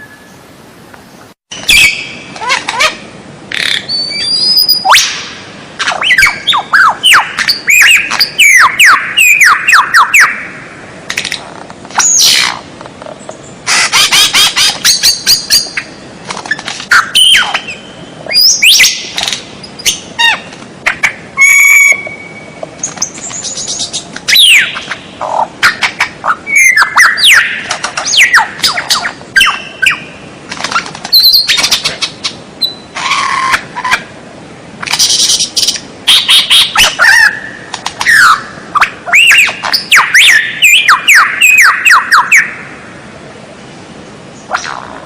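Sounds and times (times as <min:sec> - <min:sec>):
songbird singing: 0:00.0 - 0:10.8, 0:12.0 - 0:34.1, 0:34.8 - 0:43.1.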